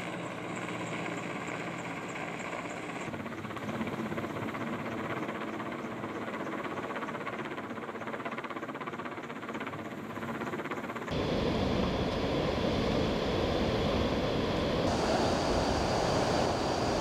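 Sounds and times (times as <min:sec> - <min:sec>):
helicopter rotor and turbine: 0:00.0 - 0:17.0.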